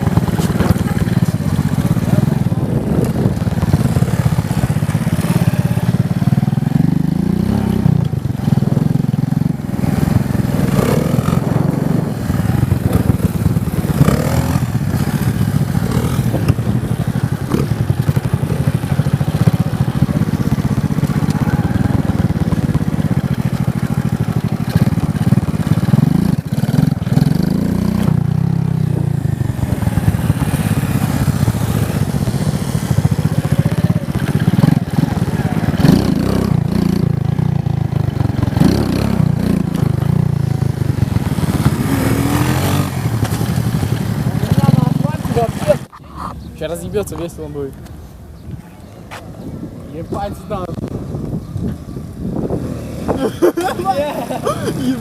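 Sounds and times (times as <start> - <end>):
motorcycle engine revving: 0.0 - 48.5, 49.1 - 55.0.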